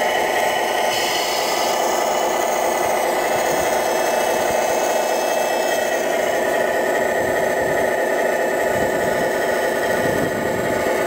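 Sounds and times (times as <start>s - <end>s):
toy wheel loader mechanical hum: 0.0s - 11.0s.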